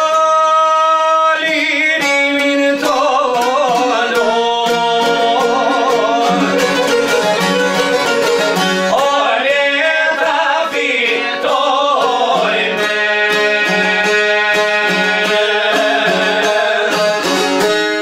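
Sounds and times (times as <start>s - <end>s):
man singing: 0.0s - 18.0s
plucked lute beat: 0.0s - 18.0s
violin: 0.0s - 18.0s.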